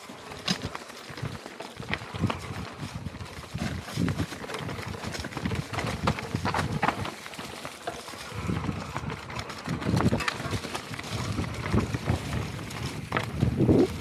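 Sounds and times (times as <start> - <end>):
bike knocking and rattling: 0.0 - 14.0
bike tyres crunching over stones: 0.0 - 14.0.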